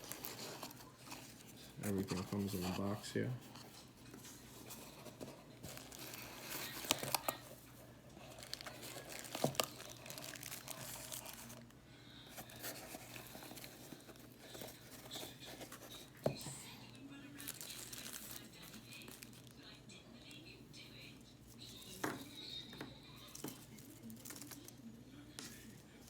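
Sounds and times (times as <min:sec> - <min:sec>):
packing material crinkling: 0:00.0 - 0:11.8, 0:12.4 - 0:20.4, 0:23.2 - 0:24.8.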